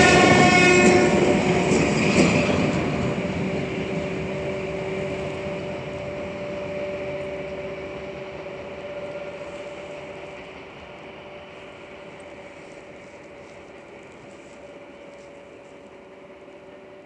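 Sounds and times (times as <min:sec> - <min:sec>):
electric locomotive hum: 0:00.0 - 0:17.0
train rumble: 0:00.0 - 0:17.0.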